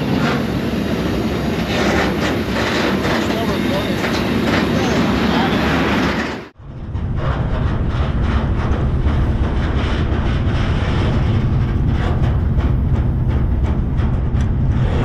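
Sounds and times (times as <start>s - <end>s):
rattles and clanks from train car: 0.0s - 15.0s
train wheels rumbling on rail: 0.0s - 15.0s.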